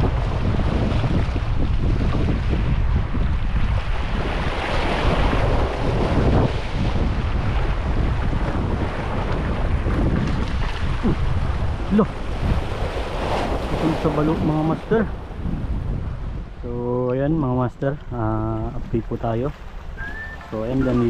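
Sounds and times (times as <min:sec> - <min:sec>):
sea waves washing at shore: 0:00.0 - 0:21.0
wind buffeting microphone: 0:00.0 - 0:21.0.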